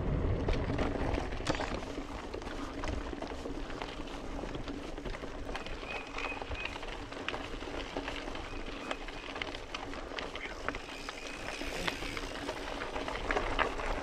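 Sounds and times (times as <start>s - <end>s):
bike tyres rolling on dirt: 0.0s - 14.0s
bike clicks and rattles: 0.2s - 14.0s.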